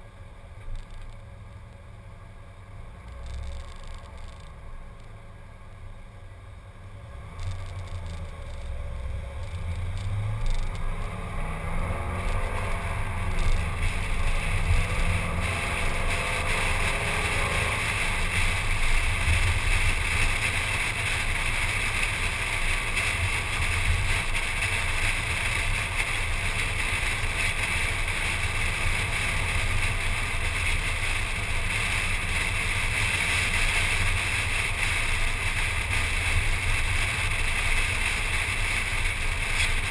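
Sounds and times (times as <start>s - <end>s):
car engine accelerating: 6.2s - 39.9s.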